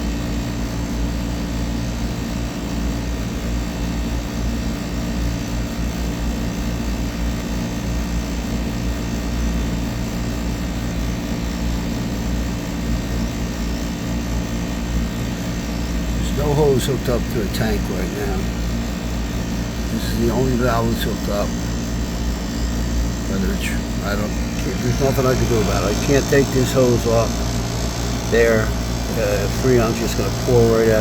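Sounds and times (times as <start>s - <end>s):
air conditioning compressor humming: 0.0s - 31.0s.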